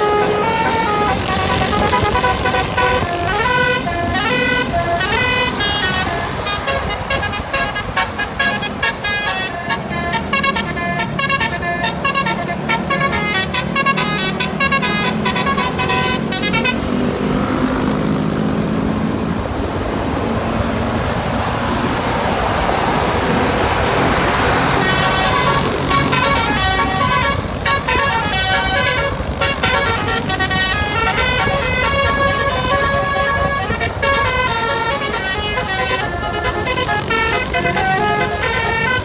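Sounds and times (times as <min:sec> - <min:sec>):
bus air horn melody: 0:00.0 - 0:17.6, 0:23.6 - 0:39.0
engine and road noise: 0:00.0 - 0:39.0.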